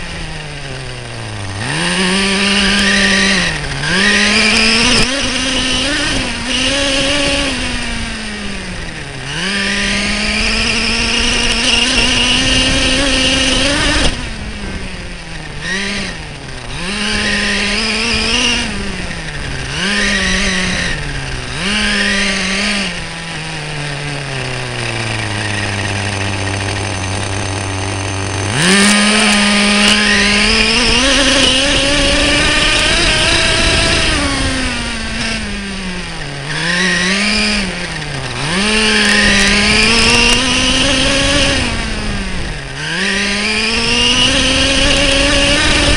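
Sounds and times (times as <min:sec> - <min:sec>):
small nitro engine revving: 0:00.0 - 0:45.9.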